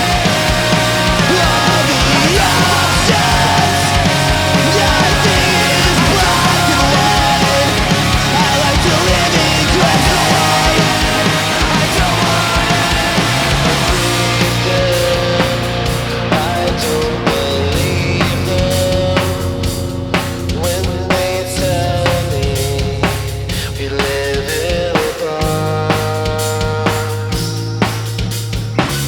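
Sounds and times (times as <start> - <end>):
drum kit beat: 0.0 - 29.0
punk rock band playing: 0.0 - 29.0.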